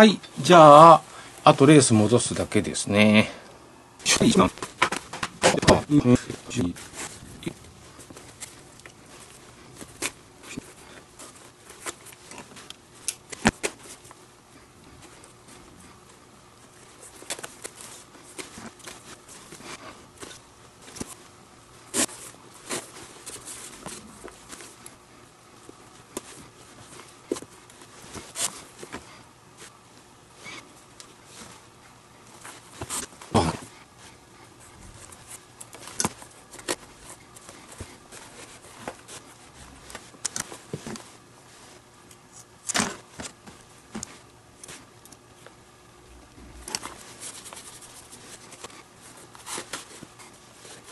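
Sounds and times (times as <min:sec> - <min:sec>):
handling clicks and rustles: 0:04.1 - 0:50.9.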